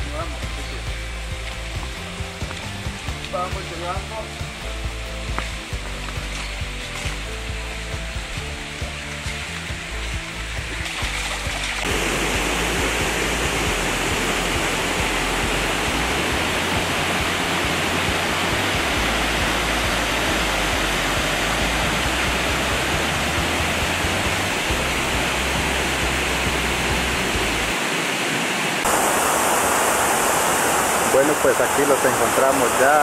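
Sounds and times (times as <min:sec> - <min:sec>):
creek water pouring over rocks: 0:00.2 - 0:33.0.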